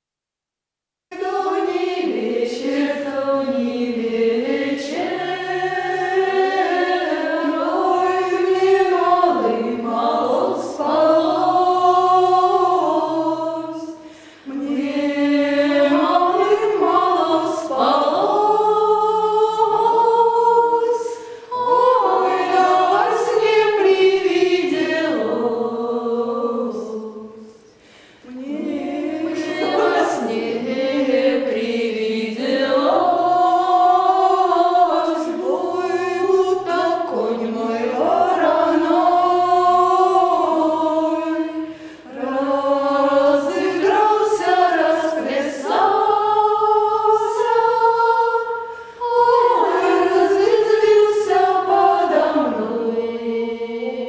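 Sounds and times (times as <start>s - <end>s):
choir singing unaccompanied: 1.1s - 54.0s.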